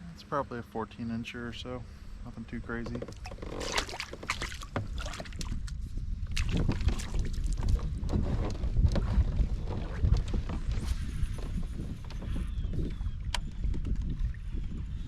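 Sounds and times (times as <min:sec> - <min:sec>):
wind buffeting microphone: 0:02.0 - 0:15.0.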